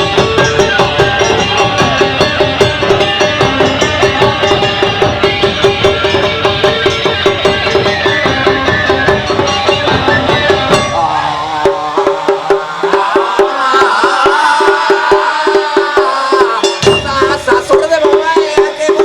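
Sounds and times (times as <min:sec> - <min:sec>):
festival band music: 0:00.0 - 0:19.0
heavy drums: 0:00.0 - 0:19.0
wooden clacking beat: 0:00.0 - 0:19.0.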